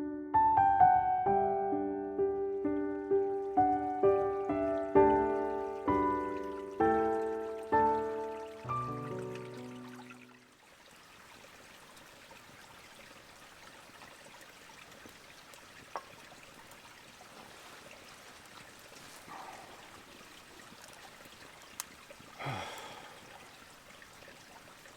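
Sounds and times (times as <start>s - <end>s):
stream trickling and babbling: 2.2s - 24.9s.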